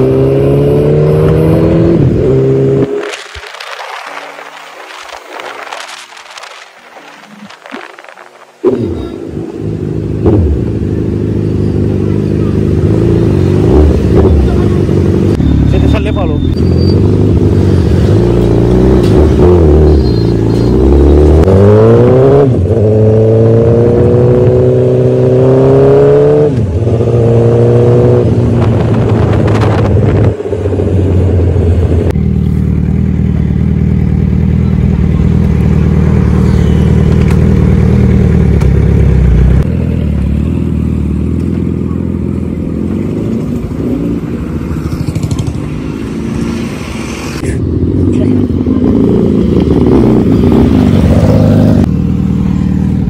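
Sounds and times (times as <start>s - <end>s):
motorcycle engine accelerating: 0.0s - 3.6s, 8.6s - 53.0s.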